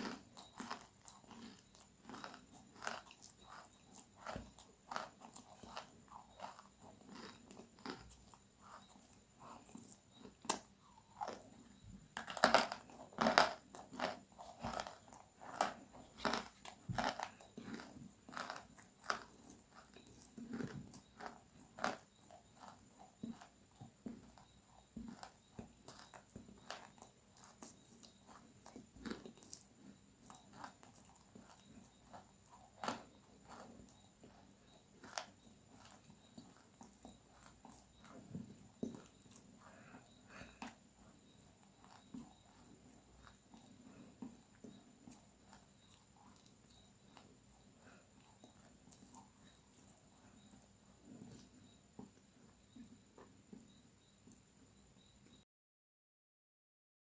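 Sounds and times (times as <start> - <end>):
crispy food crunching: 0.0 - 11.6, 12.2 - 47.3.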